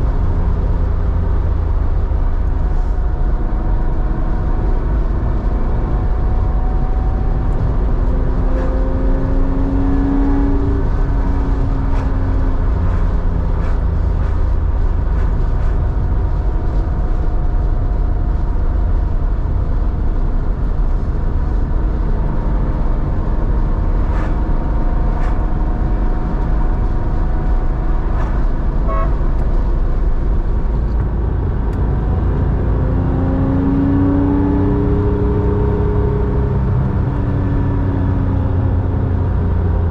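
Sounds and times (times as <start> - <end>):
car engine revving while driving: 0.0 - 39.9
heavy low rumble: 0.0 - 39.9.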